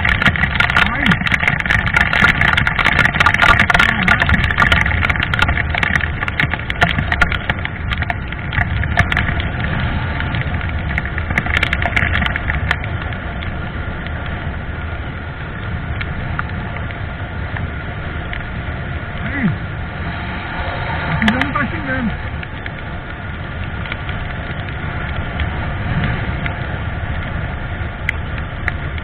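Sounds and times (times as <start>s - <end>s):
sharp ticks and crackles: 0.0s - 29.0s
wind rushing over microphone: 0.0s - 29.0s.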